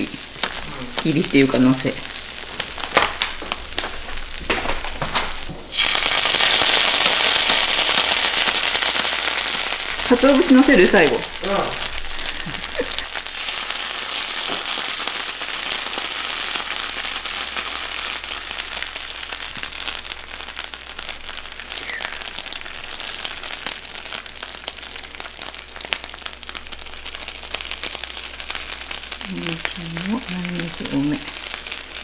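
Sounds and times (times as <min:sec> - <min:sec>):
food sizzling on a griddle: 0:00.0 - 0:32.0.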